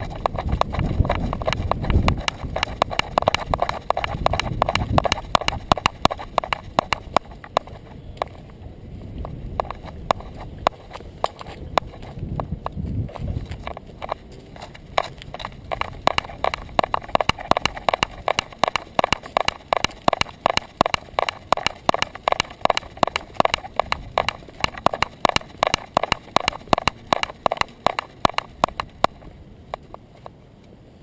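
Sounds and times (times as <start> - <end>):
dog steps clicking on concrete: 0.0 - 8.4, 9.2 - 30.0.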